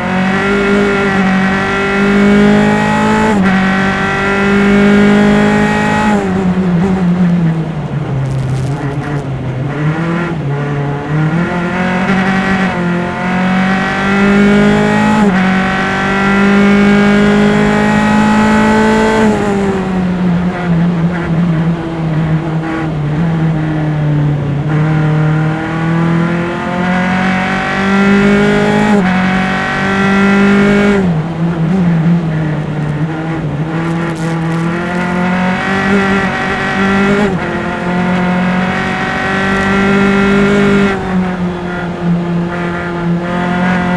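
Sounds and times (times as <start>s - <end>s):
race car engine at full throttle: 0.0s - 43.9s.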